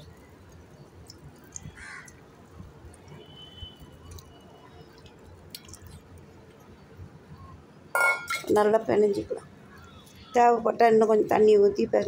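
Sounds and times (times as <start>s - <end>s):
water dripping and trickling: 0.0s - 7.6s, 8.2s - 12.0s.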